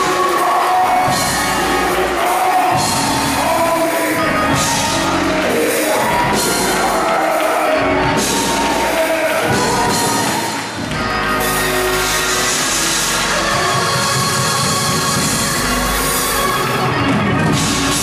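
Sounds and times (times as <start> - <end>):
band with drums and keyboard: 0.0 - 18.0
gospel singing: 0.0 - 18.0.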